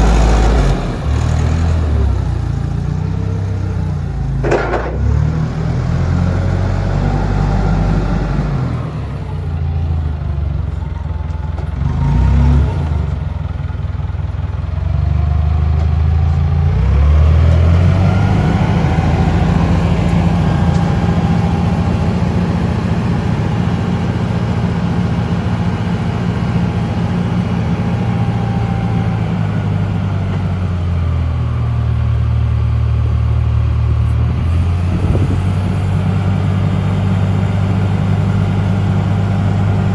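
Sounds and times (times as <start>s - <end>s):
forklift engine revving: 0.0s - 39.9s.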